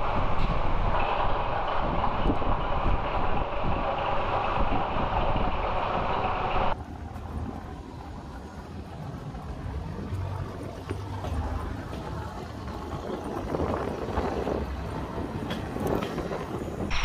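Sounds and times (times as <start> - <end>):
diesel train passing: 0.0 - 17.0
low engine rumble: 0.0 - 17.0.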